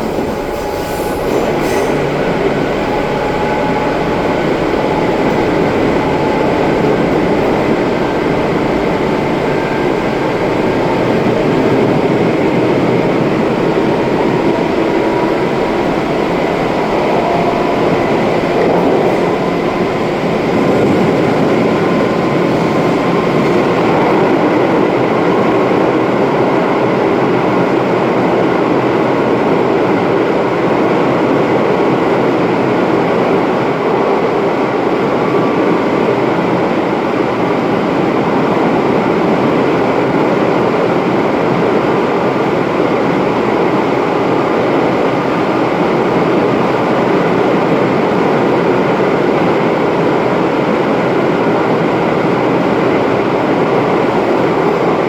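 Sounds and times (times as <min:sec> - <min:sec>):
electric train rumbling on rails: 0:00.0 - 0:55.0.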